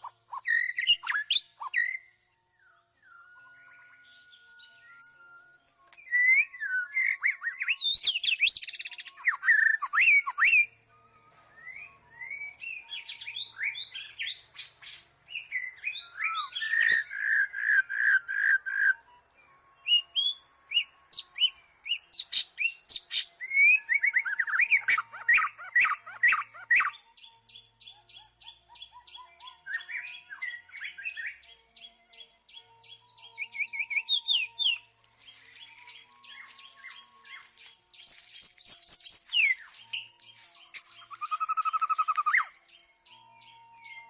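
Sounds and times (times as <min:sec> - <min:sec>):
bird singing whistled song: 0:00.0 - 0:44.0.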